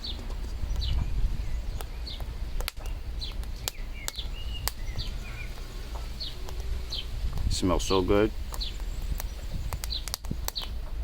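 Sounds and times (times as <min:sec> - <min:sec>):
bird chirping: 0:00.0 - 0:11.0
charcoal crackling and popping: 0:00.0 - 0:11.0.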